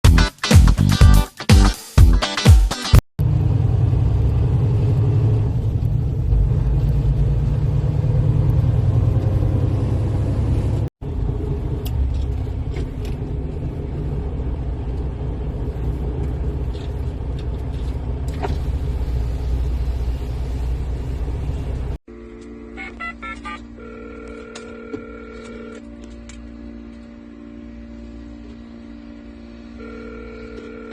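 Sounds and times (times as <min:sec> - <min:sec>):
truck engine droning: 0:03.2 - 0:30.9.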